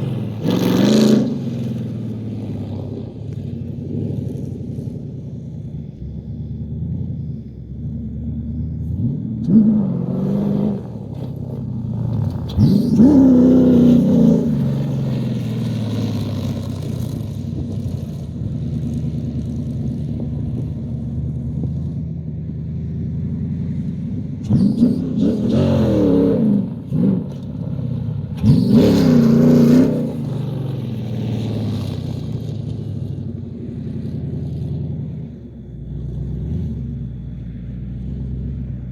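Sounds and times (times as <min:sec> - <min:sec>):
engine revving: 0:00.0 - 0:38.9.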